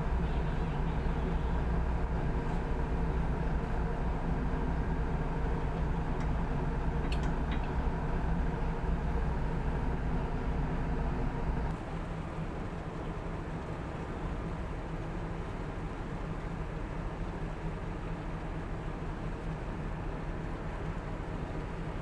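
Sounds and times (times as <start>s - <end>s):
diesel engine low drone: 0.0s - 22.0s.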